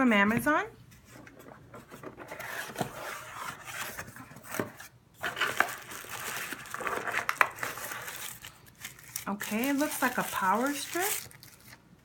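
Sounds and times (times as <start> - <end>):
package scraping and rustling: 1.2 - 11.8.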